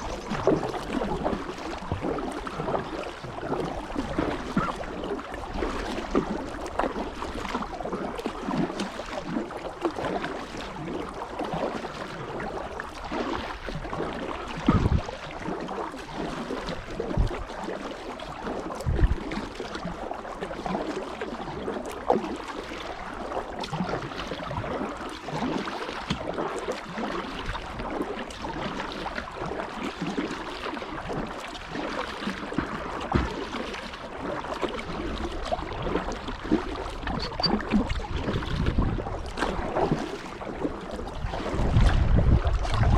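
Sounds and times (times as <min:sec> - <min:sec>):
paddle blades splashing: 0:00.0 - 0:42.9.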